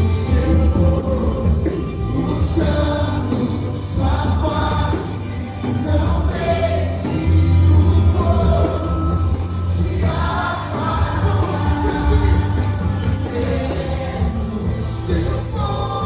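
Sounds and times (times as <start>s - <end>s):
choir-like singing with music: 0.0s - 16.0s
strong steady bass: 0.0s - 16.0s.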